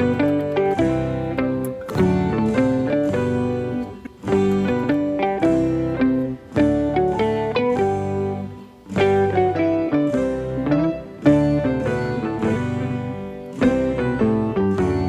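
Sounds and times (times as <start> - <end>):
plucked guitar tune: 0.0 - 15.0.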